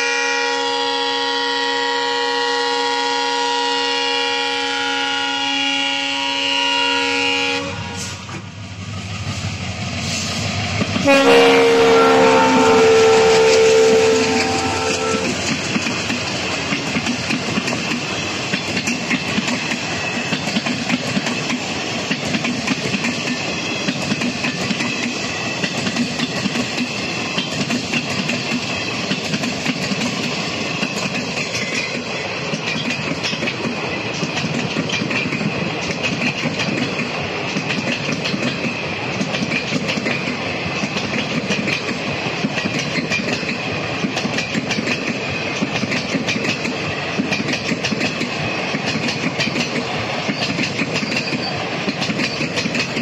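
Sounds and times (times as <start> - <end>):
train rumble: 1.4 - 53.0
train wheels clickety-clack: 7.9 - 53.0.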